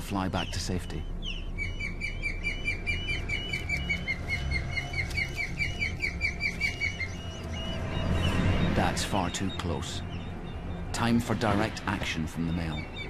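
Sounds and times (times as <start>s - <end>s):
osprey alarm calls: 0.2s - 13.0s.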